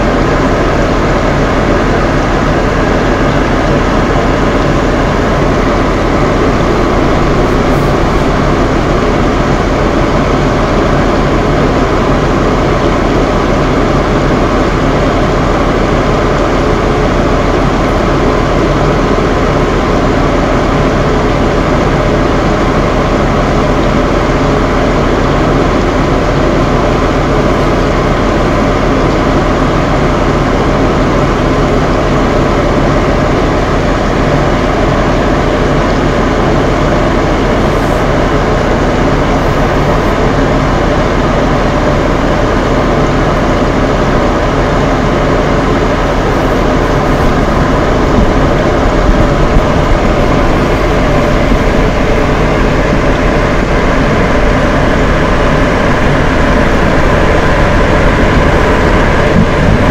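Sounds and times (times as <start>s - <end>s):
fan heaters whirring: 0.0s - 59.9s.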